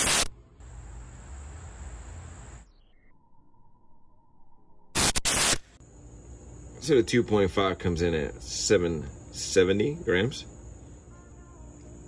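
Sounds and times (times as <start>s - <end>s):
steady outdoor hiss: 0.0s - 2.7s, 5.0s - 12.0s.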